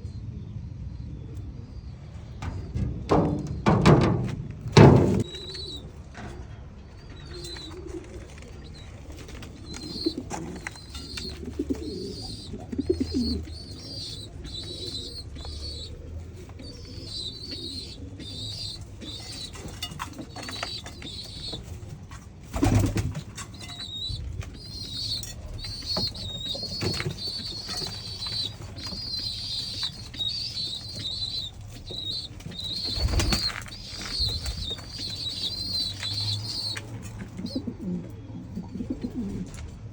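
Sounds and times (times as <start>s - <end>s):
pigeons cooing: 1.2s - 39.8s.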